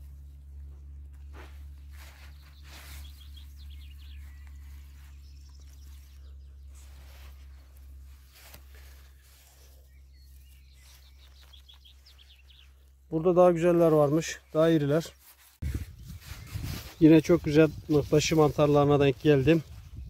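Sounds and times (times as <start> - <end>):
faint bird chirping: 0.0 - 18.8
grass rustling: 0.0 - 20.0
low steady rumble: 0.0 - 20.0.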